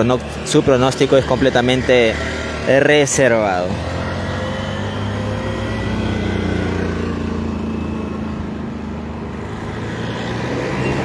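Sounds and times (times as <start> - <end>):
street traffic engines droning: 0.0 - 11.0.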